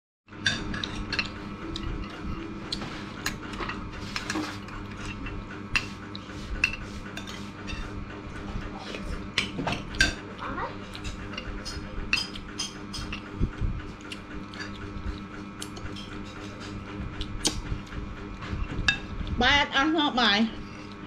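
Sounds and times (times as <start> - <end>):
steady low hum: 0.3 - 21.0.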